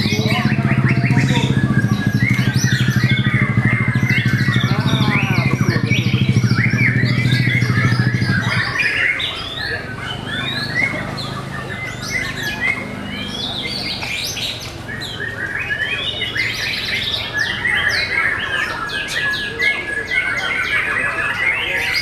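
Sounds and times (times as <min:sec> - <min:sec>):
rapid bird trill: 0:00.0 - 0:22.0
songbirds whistling and chirping: 0:00.0 - 0:22.0.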